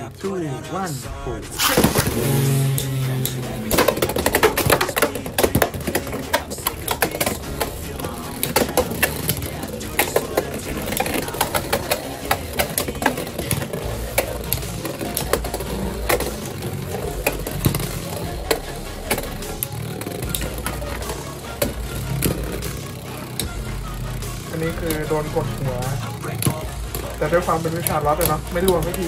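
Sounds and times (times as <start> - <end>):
spinning tops clattering: 1.5 - 29.0.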